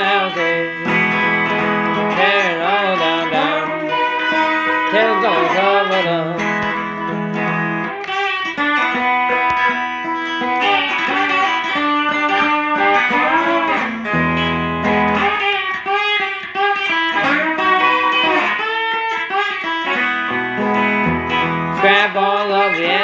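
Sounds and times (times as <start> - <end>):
electric guitar lead: 0.0 - 23.0.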